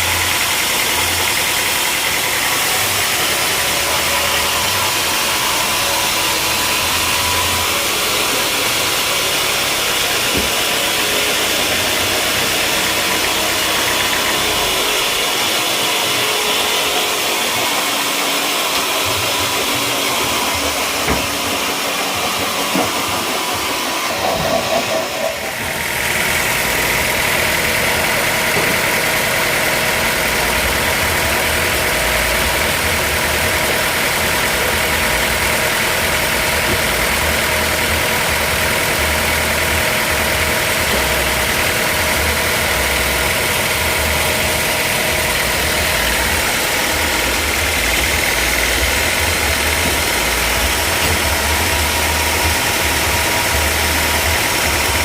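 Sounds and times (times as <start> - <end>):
machinery engine hum: 0.0 - 55.0
steady high whine: 0.0 - 55.0.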